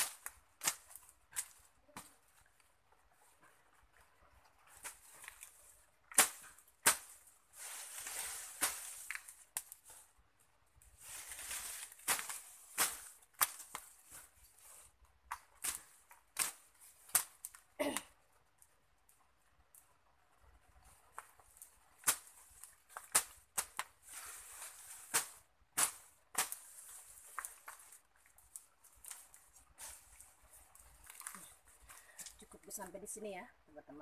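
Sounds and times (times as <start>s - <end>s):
twigs snapping: 0.0s - 2.7s, 4.6s - 10.0s, 10.8s - 19.9s, 21.0s - 32.5s
leafy rustling: 0.0s - 34.0s.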